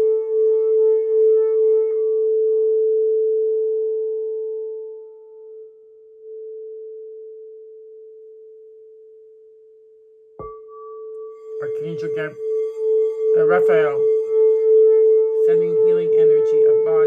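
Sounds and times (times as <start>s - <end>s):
singing bowl ringing: 2.2s - 17.0s.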